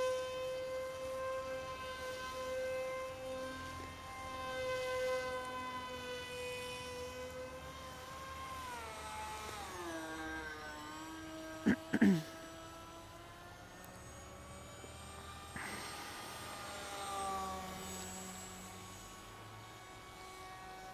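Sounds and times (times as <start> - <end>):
model plane electric motor whining: 0.0 - 20.9.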